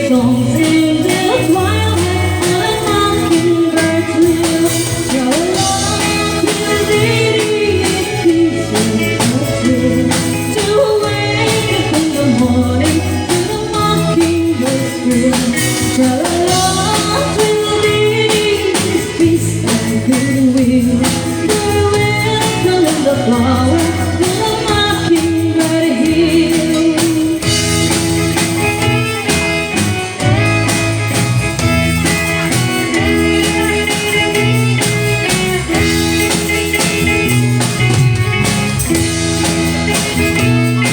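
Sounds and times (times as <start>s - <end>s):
bass: 0.0s - 40.9s
drum kit beat: 0.0s - 40.9s
guitar: 0.0s - 40.9s
person singing: 0.0s - 40.9s.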